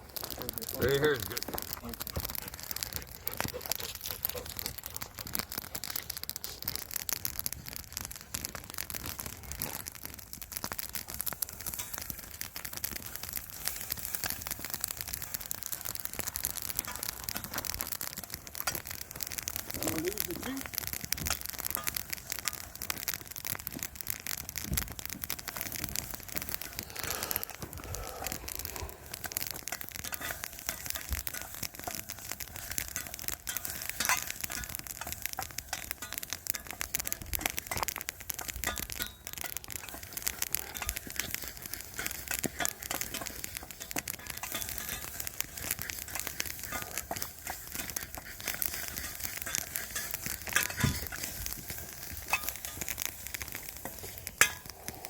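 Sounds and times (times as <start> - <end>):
food crackling and sizzling: 0.0 - 55.0.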